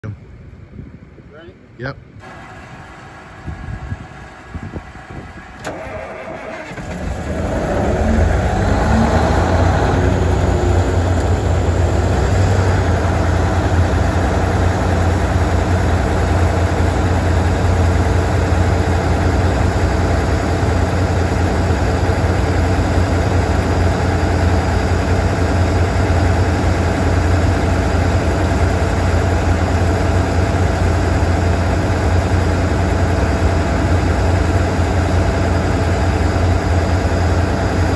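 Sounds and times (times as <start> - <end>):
diesel engine idling: 2.2 - 37.9.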